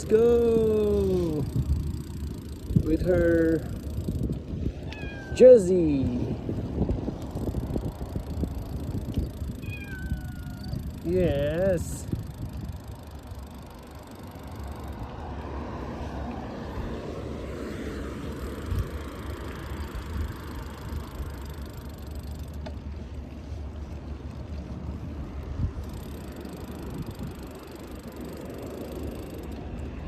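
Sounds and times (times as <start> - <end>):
road noise: 0.0 - 30.0
wind rumble on microphone: 0.0 - 30.0.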